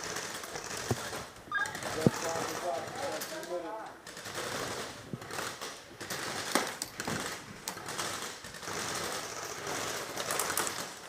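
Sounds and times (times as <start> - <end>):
airsoft guns firing full-auto: 0.0 - 11.0.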